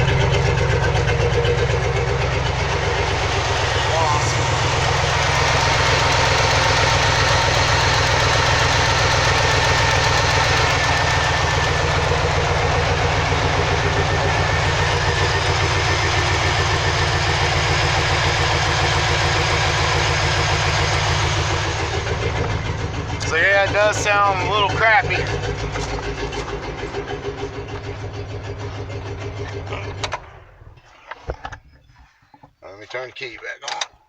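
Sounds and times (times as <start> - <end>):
truck engine idling roughly: 0.0 - 31.8.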